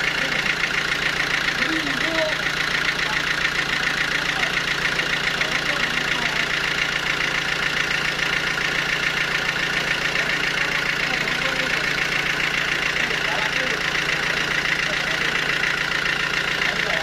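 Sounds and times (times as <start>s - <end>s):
sawmill machinery pulsing hum: 0.0s - 17.0s.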